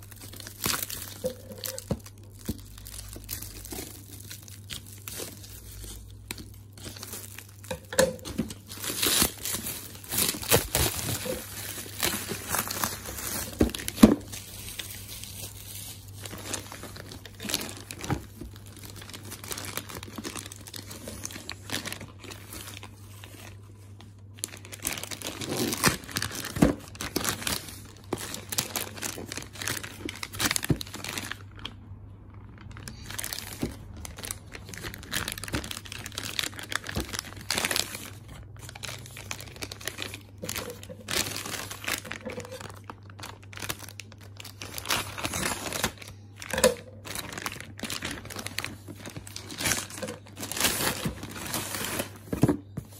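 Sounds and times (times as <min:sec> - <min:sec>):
plastic bag crinkling: 0:00.0 - 0:52.9.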